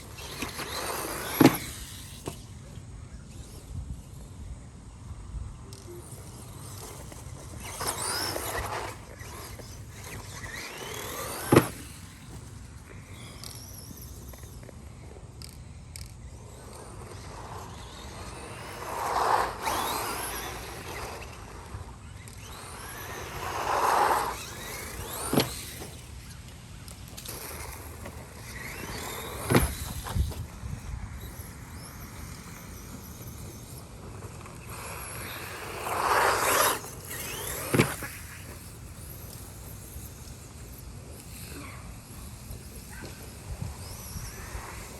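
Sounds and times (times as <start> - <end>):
electric motor whine: 0.0 - 44.9.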